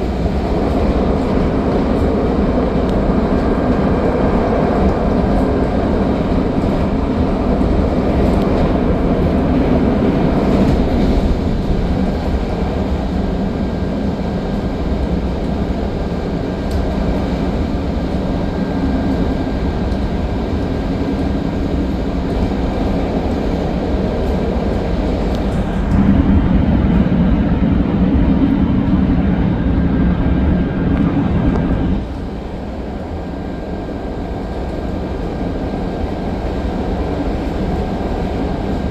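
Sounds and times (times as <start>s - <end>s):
train rumbling on track: 0.0s - 38.9s.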